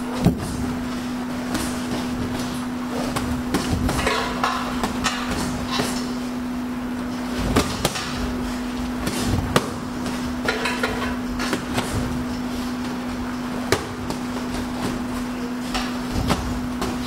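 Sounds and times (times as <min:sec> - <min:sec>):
boxing gloves punching: 0:00.0 - 0:06.2, 0:07.4 - 0:10.5, 0:11.3 - 0:17.0
steady low hum: 0:00.0 - 0:17.0.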